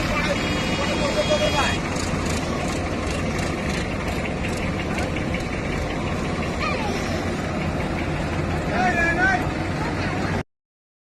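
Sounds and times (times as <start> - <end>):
diesel engine running: 0.0 - 10.4.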